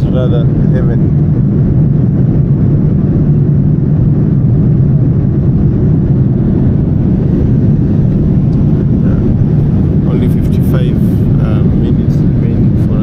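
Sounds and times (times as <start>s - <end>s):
airplane cabin engine noise: 0.0s - 13.0s.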